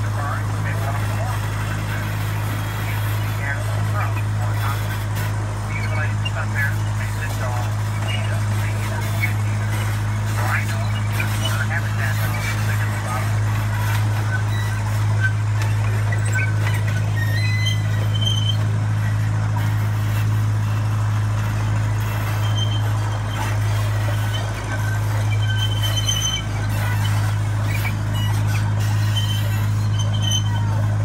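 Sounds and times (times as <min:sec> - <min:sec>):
miniature train droning: 0:00.0 - 0:31.0.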